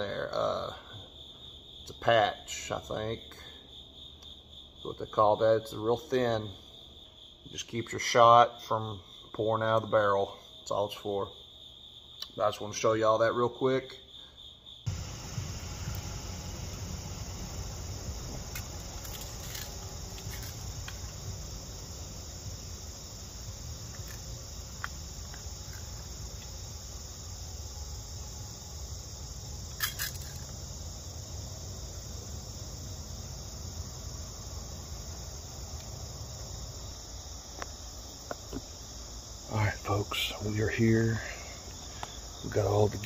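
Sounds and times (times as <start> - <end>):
insects and crickets chorus: 0.0 - 43.0.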